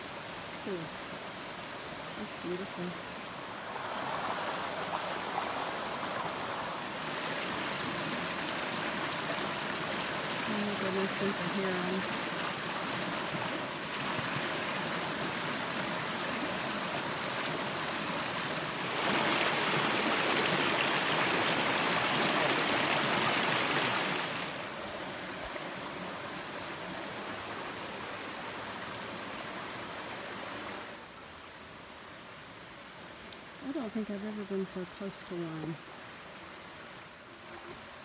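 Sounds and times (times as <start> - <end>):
water rushing over rocks: 0.0 - 31.1.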